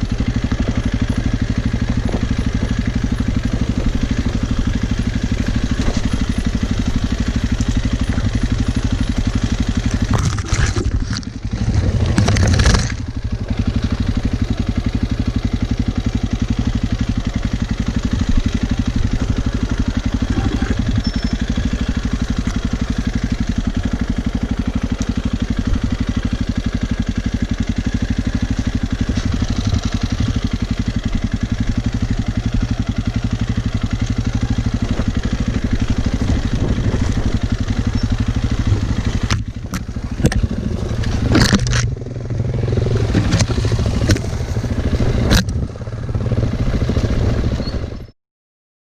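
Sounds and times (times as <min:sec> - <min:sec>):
motorcycle engine running: 0:00.0 - 0:48.2.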